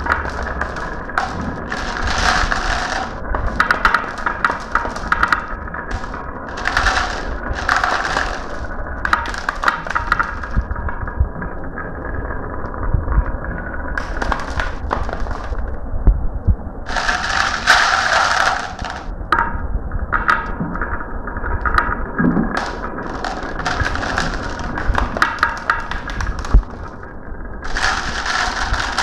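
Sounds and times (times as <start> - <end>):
marbles rolling down a track: 0.0 - 15.8, 16.9 - 29.0.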